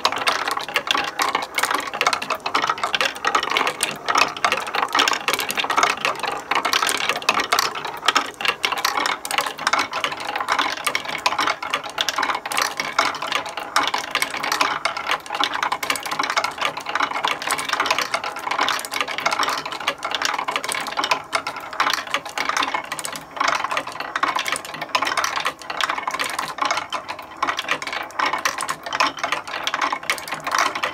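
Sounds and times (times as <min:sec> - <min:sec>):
marbles clicking on wooden tracks: 0:00.0 - 0:30.9.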